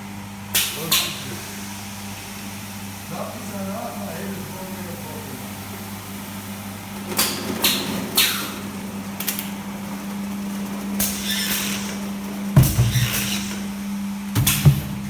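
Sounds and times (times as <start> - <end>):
bottling machine hum: 0.0 - 15.0.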